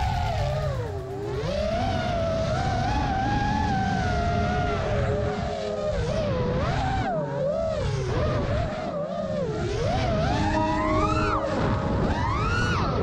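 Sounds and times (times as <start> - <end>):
drone propellers whining: 0.0 - 13.0
wind rush on microphone: 0.0 - 13.0.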